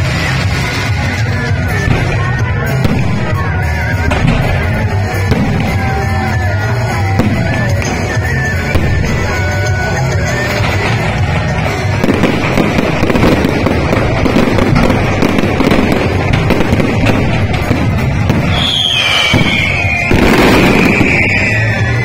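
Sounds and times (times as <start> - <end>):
fireworks exploding and crackling: 0.0 - 22.0.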